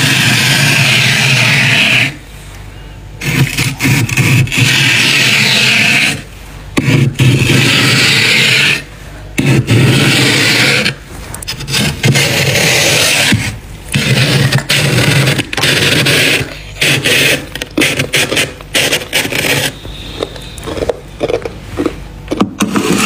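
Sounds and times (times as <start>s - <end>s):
knife scraping frost off freezer: 0.0s - 2.2s, 3.2s - 23.0s.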